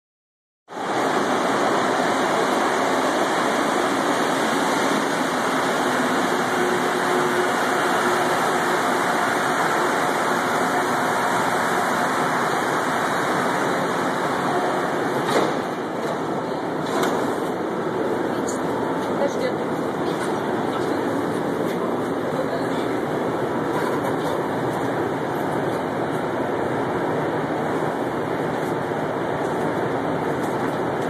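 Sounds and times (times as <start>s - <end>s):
metro train rumble and hiss: 0.7s - 31.0s.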